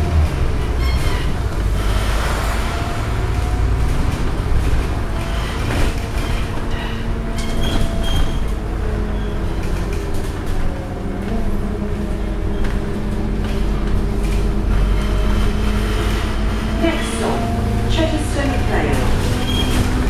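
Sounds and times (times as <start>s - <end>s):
bus diesel engine humming: 0.0s - 20.0s
low road rumble: 0.0s - 20.0s.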